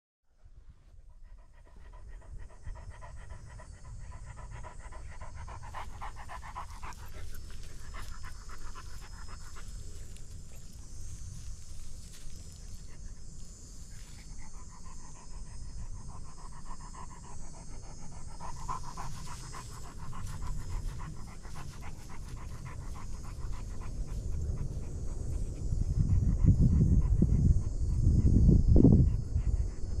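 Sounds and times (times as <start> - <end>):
dog panting: 0.9 - 30.0.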